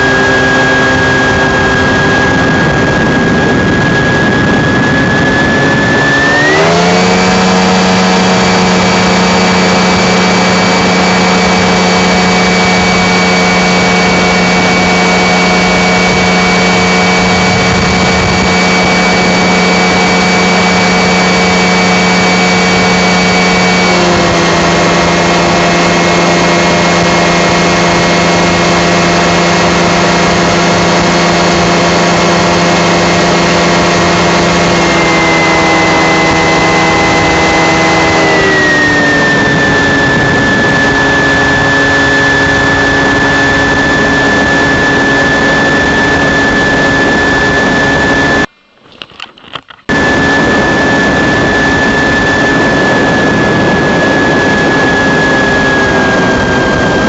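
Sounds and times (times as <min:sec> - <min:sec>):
light aircraft engine: 0:00.0 - 0:57.0
wind noise: 0:00.0 - 0:57.0.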